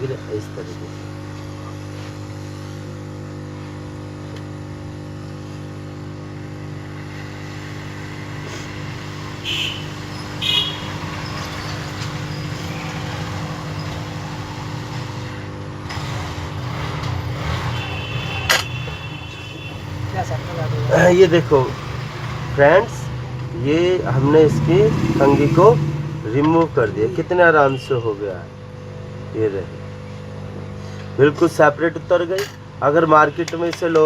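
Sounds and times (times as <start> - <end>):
hot-air station blowing: 0.0 - 33.8.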